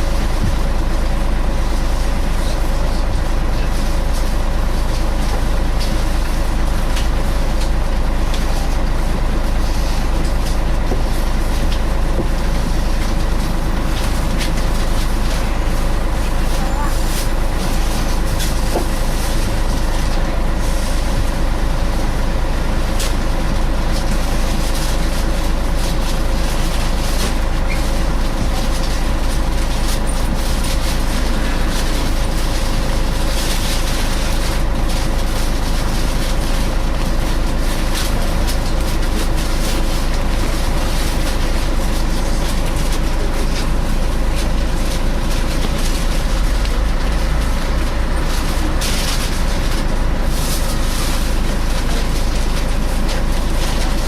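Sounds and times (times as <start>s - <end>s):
bus diesel engine rumble: 0.0s - 54.0s
cooling fan whining drone: 0.0s - 54.0s.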